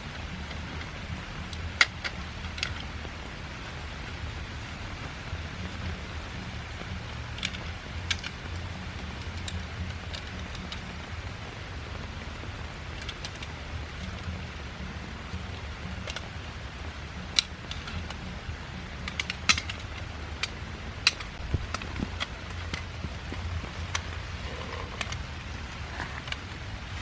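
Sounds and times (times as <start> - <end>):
sharp ticks of raindrops: 0.0 - 27.0
steady rain: 0.0 - 27.0.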